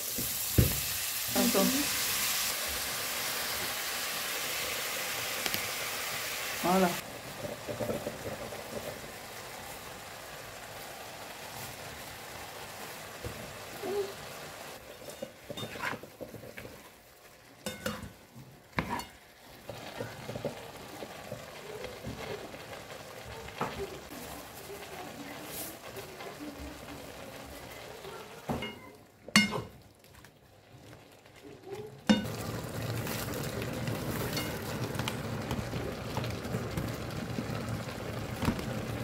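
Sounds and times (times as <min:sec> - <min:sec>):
food sizzling in a frying pan: 0:00.0 - 0:39.0.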